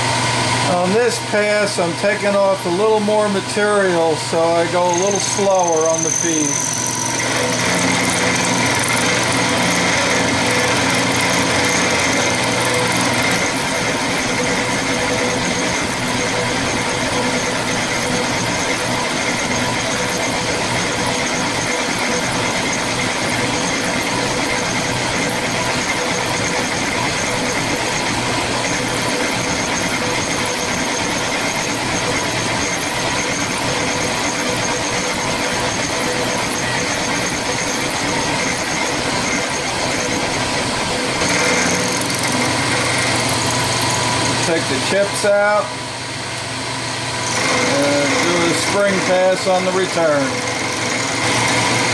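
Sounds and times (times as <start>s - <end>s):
milling machine cutting steel: 0.0s - 51.9s.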